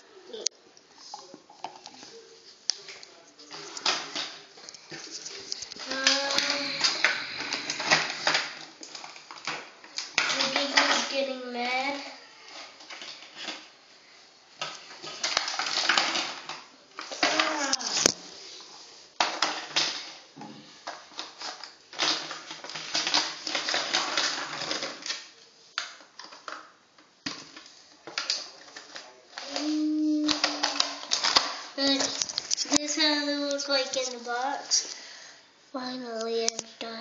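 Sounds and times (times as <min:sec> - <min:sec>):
plastic toys and packaging rustling: 0:00.0 - 0:37.0.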